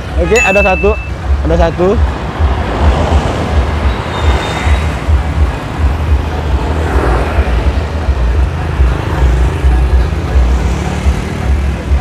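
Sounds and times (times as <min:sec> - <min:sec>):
heavy low traffic rumble: 0:00.0 - 0:12.0.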